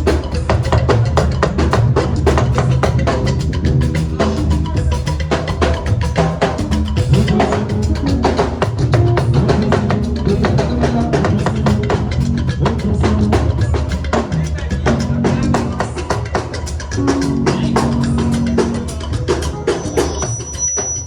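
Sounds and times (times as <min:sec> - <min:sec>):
bass line: 0:00.0 - 0:20.4
drum kit playing fast beat: 0:00.0 - 0:21.0.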